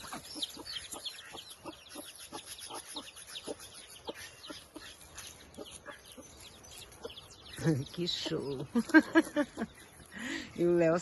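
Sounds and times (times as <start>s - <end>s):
hen clucking: 0.0s - 10.9s
chicks peeping: 0.0s - 11.0s.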